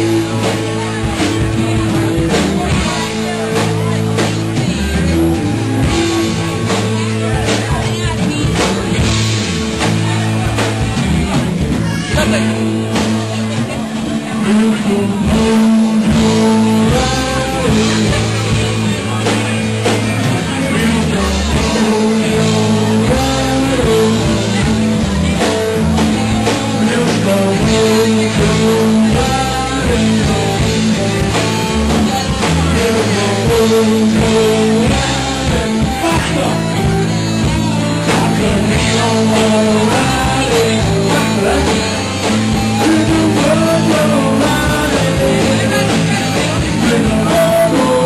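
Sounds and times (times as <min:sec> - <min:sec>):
live rock band playing: 0:00.0 - 0:48.0
person singing: 0:00.0 - 0:48.0.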